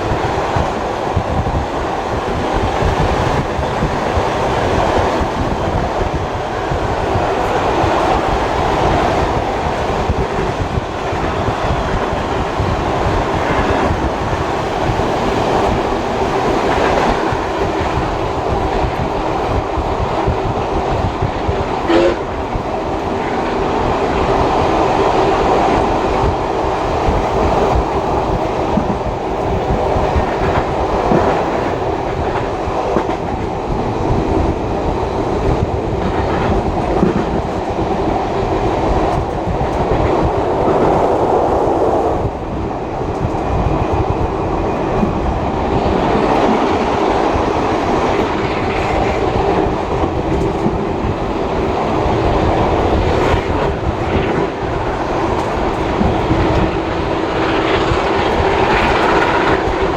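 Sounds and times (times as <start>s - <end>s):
rail joints clickety-clack: 0.0s - 59.9s
train wheels rumbling on rail: 0.0s - 59.9s.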